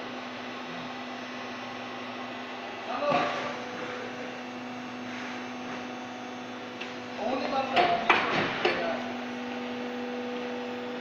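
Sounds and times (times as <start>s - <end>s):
hydraulic pump motor humming: 0.0s - 11.0s.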